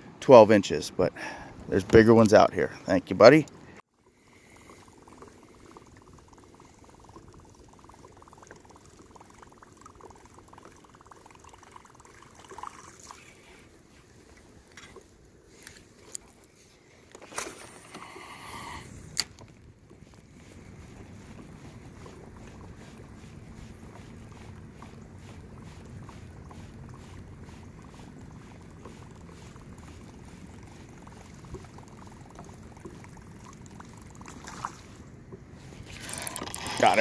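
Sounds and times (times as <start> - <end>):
water trickling and lapping: 0.0 - 37.0.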